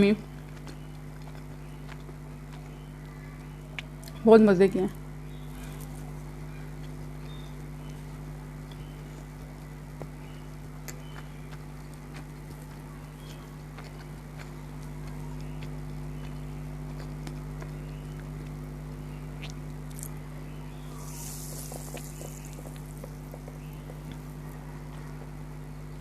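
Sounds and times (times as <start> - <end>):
electrical hum: 0.0 - 26.0
person chewing crunchy food: 0.2 - 4.2, 5.5 - 26.0.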